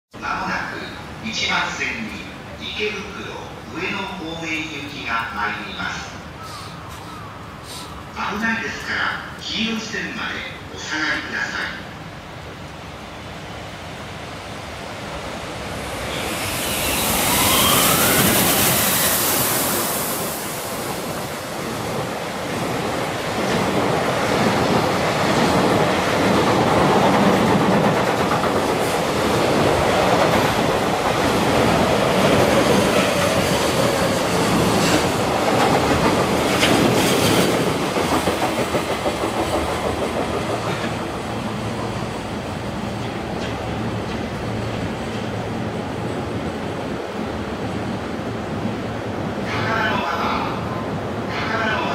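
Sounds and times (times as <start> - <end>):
electric locomotive rushing by: 0.3 - 51.9.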